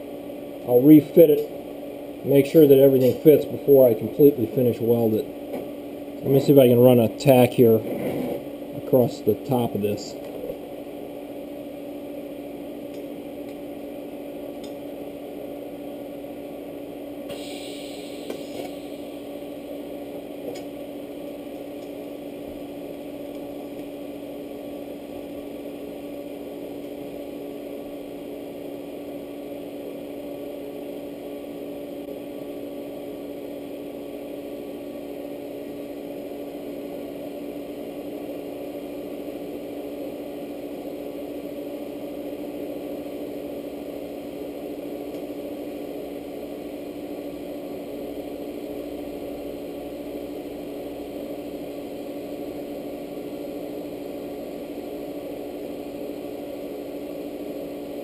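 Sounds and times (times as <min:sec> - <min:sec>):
welding machine electrical hum: 0:00.0 - 0:58.0.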